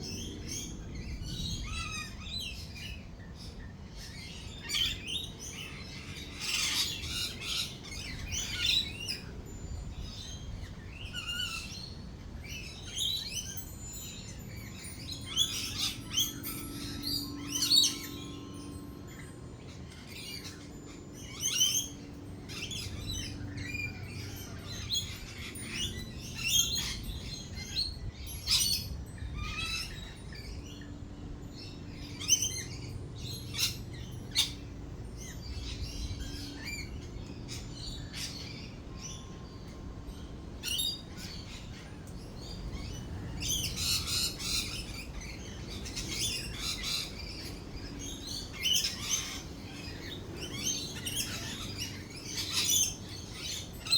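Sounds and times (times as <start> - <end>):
lorikeets screeching and chirping: 0.0 - 53.9
low background rumble: 0.0 - 53.9.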